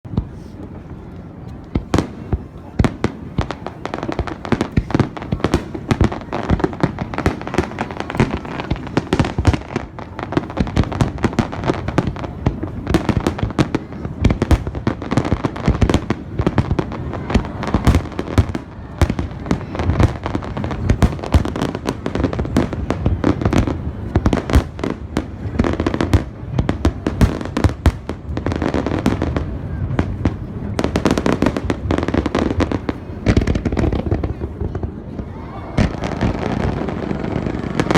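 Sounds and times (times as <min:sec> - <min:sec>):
fireworks bangs and cracks: 0:00.1 - 0:37.9.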